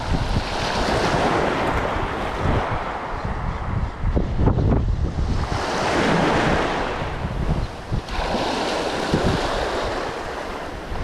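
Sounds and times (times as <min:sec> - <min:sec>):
small waves breaking on beach: 0:00.0 - 0:03.7, 0:05.2 - 0:11.0
wind rumbling on microphone: 0:00.0 - 0:11.0.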